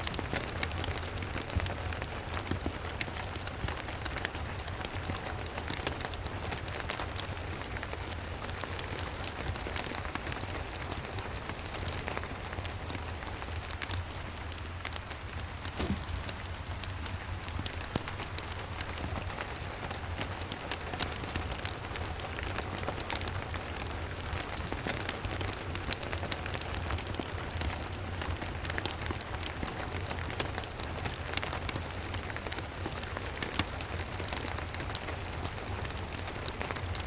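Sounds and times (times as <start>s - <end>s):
steady rain: 0.0s - 37.0s
wood fire crackling: 0.0s - 37.0s.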